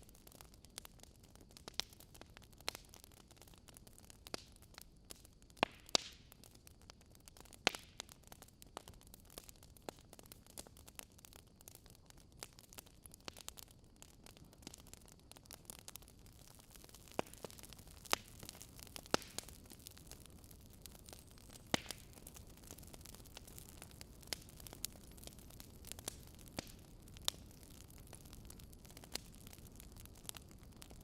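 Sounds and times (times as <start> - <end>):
fire crackling: 0.0 - 31.0.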